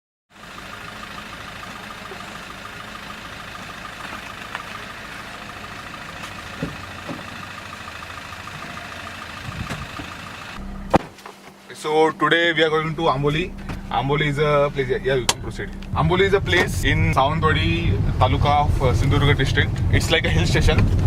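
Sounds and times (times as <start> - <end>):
car engine idling: 0.3 - 21.0.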